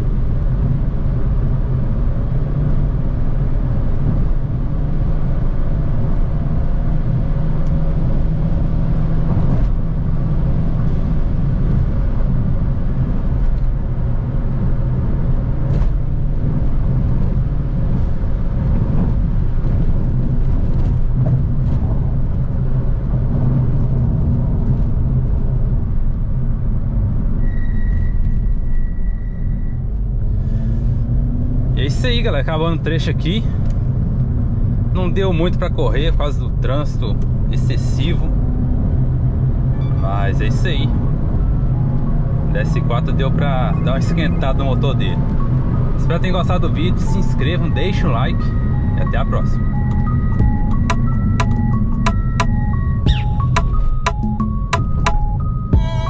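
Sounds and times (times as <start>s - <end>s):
car engine drone: 0.0s - 56.0s.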